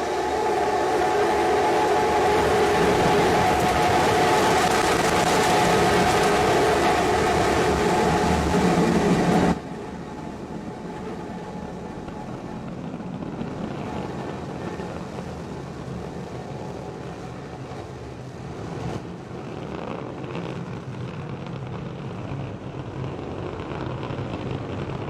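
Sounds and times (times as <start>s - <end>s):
rocket engines roaring: 0.0s - 25.0s.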